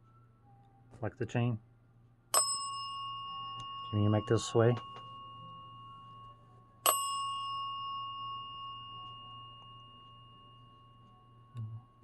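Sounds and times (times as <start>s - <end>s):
small metal bell ringing: 2.4s - 12.0s.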